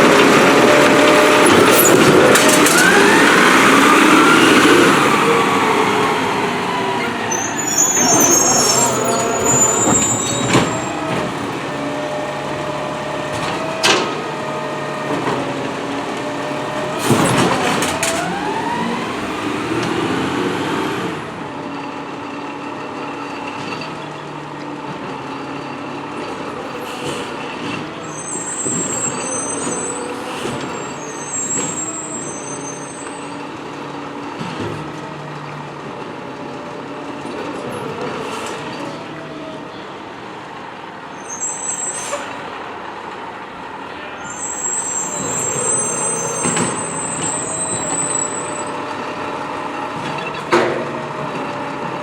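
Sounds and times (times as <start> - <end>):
garbage truck running: 0.0 - 52.0.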